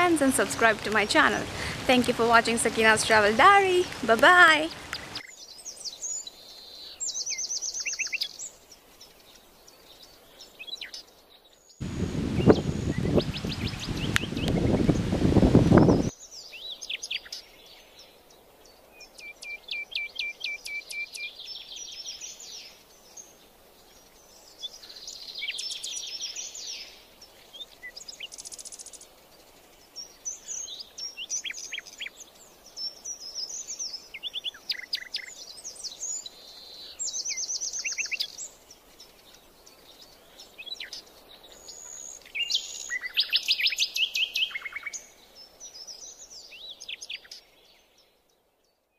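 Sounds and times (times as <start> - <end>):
faint background hiss: 0.0 - 48.9
songbirds singing: 0.0 - 48.9.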